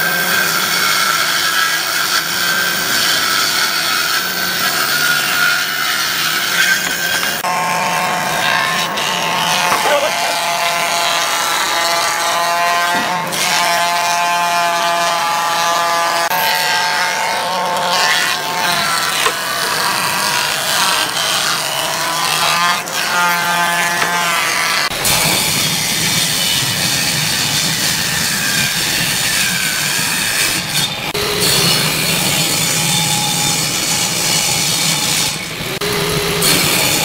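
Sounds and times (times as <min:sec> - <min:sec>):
cutterhead chipping wood: 0:00.0 - 0:14.4, 0:17.3 - 0:32.8
thickness planer whining: 0:00.0 - 0:37.0.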